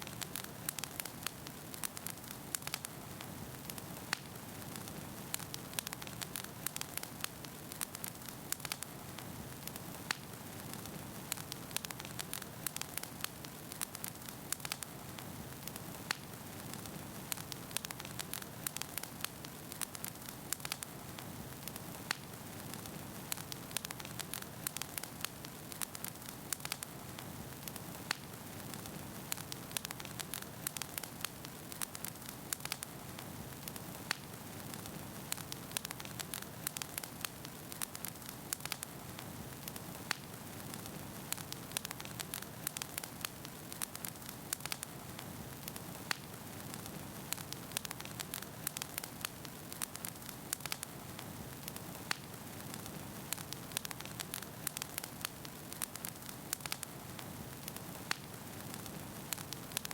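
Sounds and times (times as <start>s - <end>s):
logs crackling and popping: 0.0s - 59.9s.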